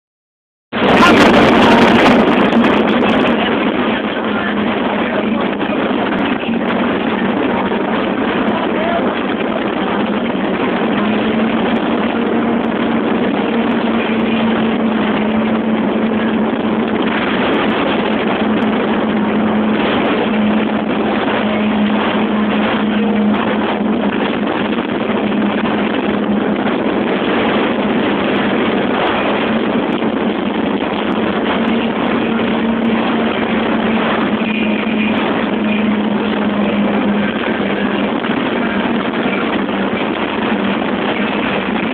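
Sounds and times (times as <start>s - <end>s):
boat engine hum: 0.7s - 41.9s
rush of wind and water: 0.7s - 41.9s.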